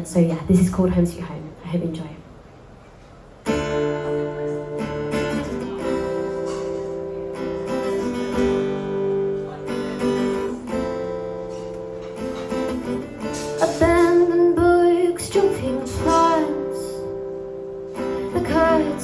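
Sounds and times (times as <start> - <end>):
acoustic guitar strumming chords: 3.4 - 19.0.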